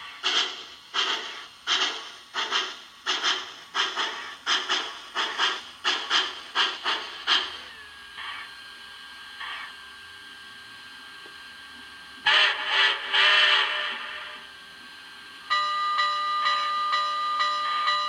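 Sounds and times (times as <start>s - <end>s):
model steam locomotive chuffs: 0.0s - 18.0s.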